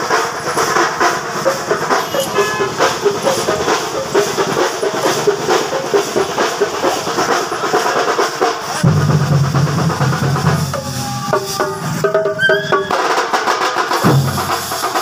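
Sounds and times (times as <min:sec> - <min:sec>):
drum band playing: 0:00.0 - 0:15.0.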